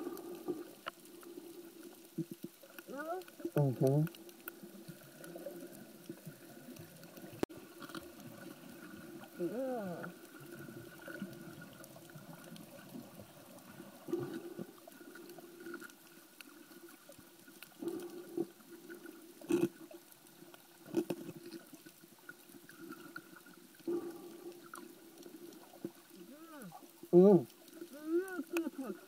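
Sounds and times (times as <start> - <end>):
faint underwater hum: 0.0 - 29.0
water swishing: 0.0 - 29.0.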